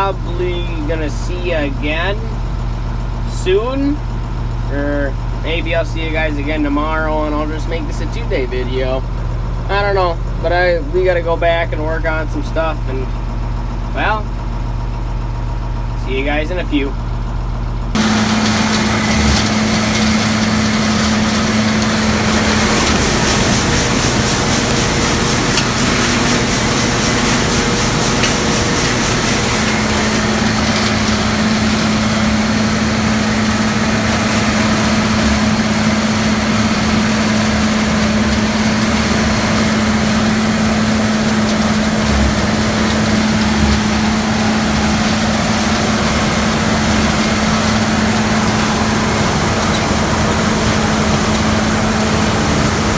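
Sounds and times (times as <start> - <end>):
farm machinery engine running: 0.0 - 52.9.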